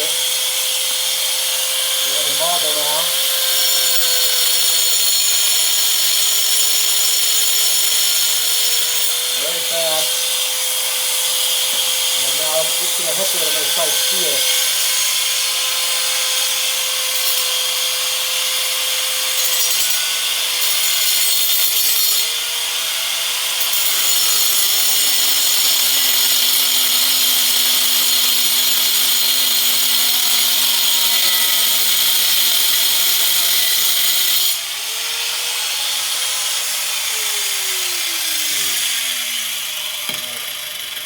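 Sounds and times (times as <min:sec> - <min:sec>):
angle grinder cutting steel: 0:00.0 - 0:41.0.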